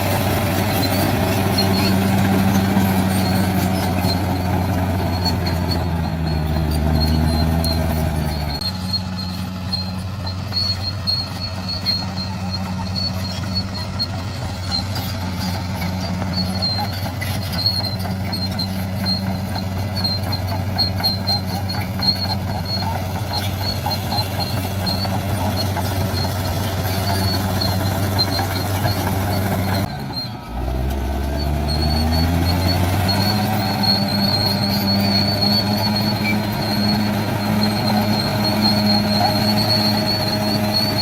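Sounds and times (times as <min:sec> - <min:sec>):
bulldozer diesel engine running: 0:00.0 - 0:41.0
faint high squeal: 0:00.5 - 0:30.6, 0:31.2 - 0:41.0.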